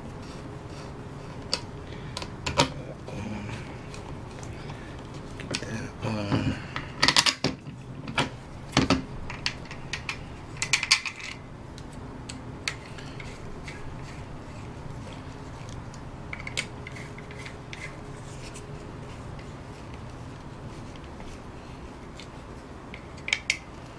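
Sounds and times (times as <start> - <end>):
faint steady background hum: 0.0 - 23.9.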